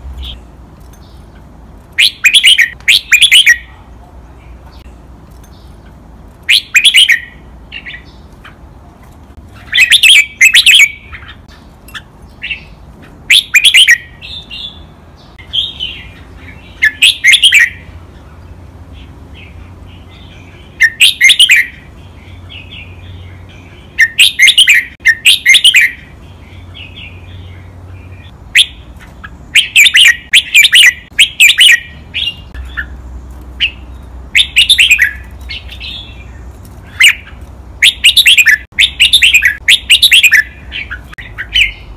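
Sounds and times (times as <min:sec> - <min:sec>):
bird singing chirpy phrases: 0:00.0 - 0:41.9.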